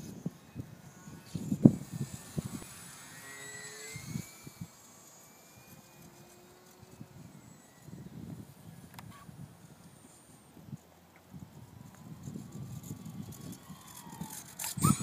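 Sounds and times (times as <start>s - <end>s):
wind rumbling on microphone: 0.0s - 4.8s, 6.8s - 15.0s
model plane motor whining: 0.0s - 15.0s.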